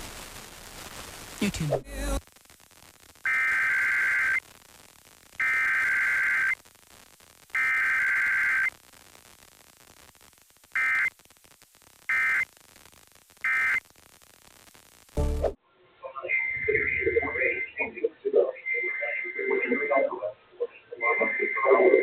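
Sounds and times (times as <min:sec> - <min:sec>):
low receiver hiss: 0:00.0 - 0:22.0.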